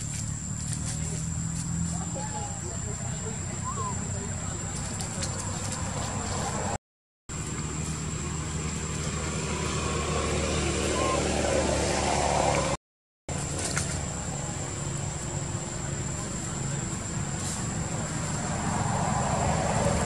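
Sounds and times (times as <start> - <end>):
vehicle engines humming: 0.0 - 20.0.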